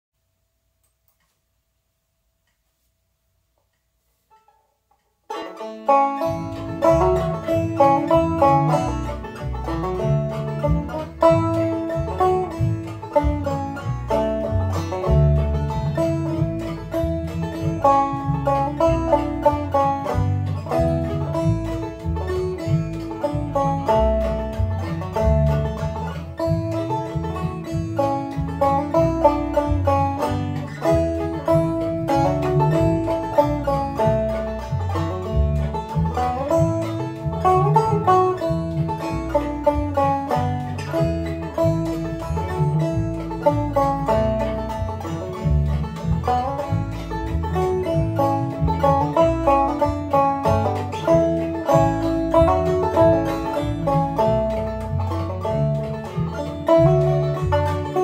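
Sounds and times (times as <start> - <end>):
banjo melody: 4.3 - 58.0
backing track with bass line: 5.3 - 58.0.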